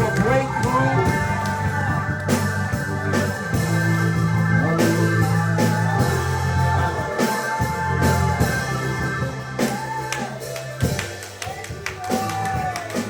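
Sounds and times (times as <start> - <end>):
live praise music: 0.0 - 13.0.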